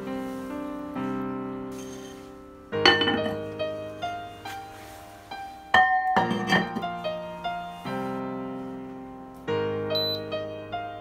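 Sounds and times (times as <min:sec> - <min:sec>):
light piano melody: 0:00.0 - 0:11.0.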